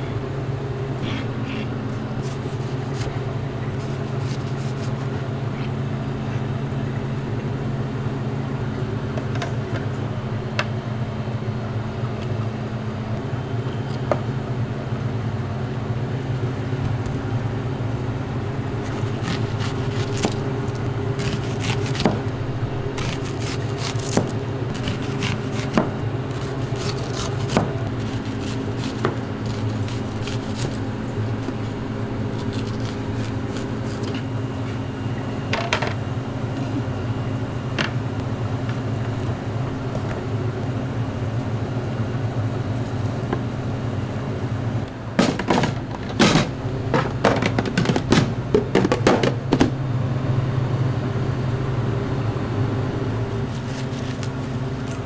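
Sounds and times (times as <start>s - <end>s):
kitchen machinery hum: 0.0s - 55.0s.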